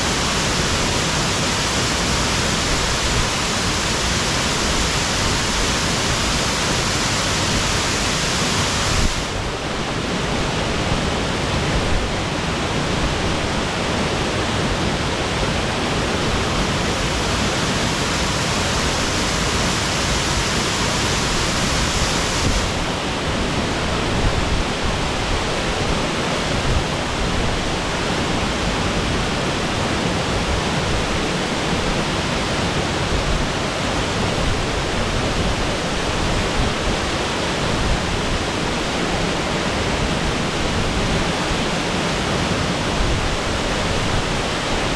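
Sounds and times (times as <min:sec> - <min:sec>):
waterfall crashing into pool: 0:00.0 - 0:10.8, 0:15.5 - 0:44.9.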